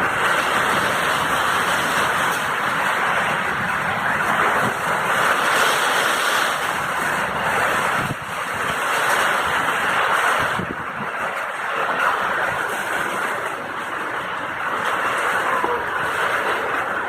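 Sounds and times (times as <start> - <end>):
heavy rain in strong wind: 0.0 - 17.0.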